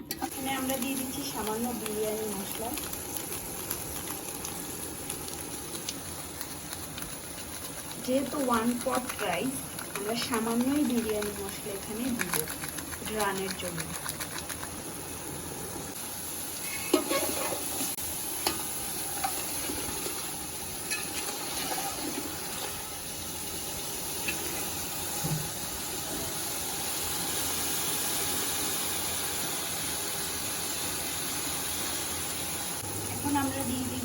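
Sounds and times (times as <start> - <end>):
chicken sizzling in a pot: 0.0 - 34.0.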